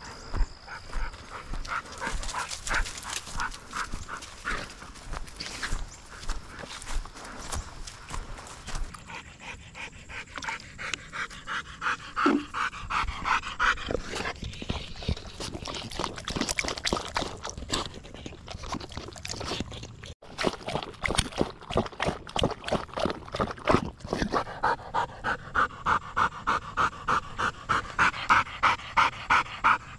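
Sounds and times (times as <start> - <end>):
dog panting: 0.0 - 20.2, 24.1 - 29.9.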